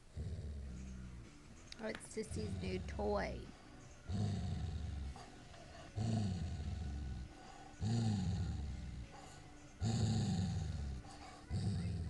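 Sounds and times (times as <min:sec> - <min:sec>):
dog growling: 0:00.0 - 0:01.4, 0:02.3 - 0:03.3, 0:04.1 - 0:12.0.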